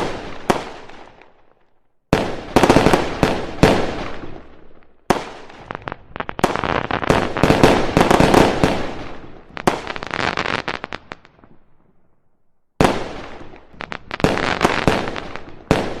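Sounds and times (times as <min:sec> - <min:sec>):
fireworks crackling and popping: 0:00.0 - 0:11.8, 0:12.8 - 0:16.0.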